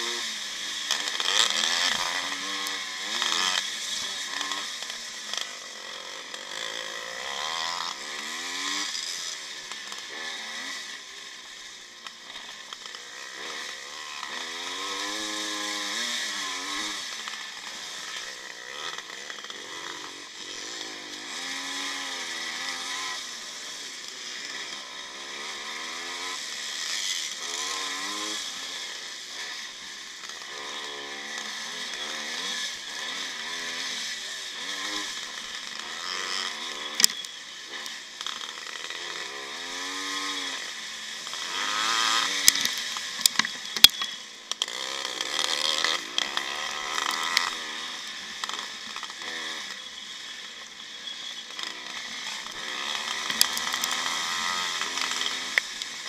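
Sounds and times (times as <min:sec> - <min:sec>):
motocross engine revving: 0:00.0 - 0:56.0.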